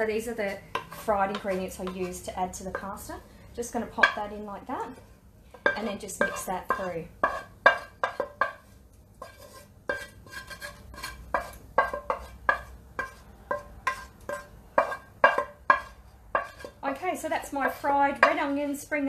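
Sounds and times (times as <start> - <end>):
spatula scraping and clinking on pan: 0.0 - 3.1, 3.8 - 18.6.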